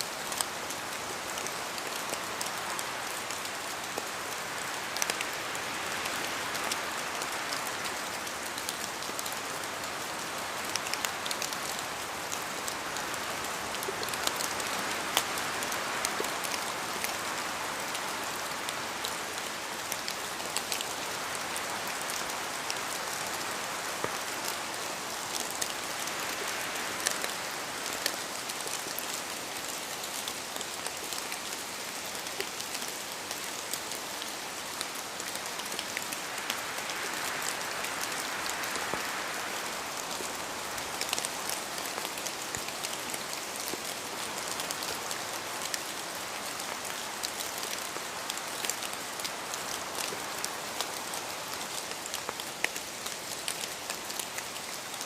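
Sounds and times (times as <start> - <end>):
raindrops pattering on a surface: 0.0 - 55.0
steady rain falling: 0.0 - 55.0.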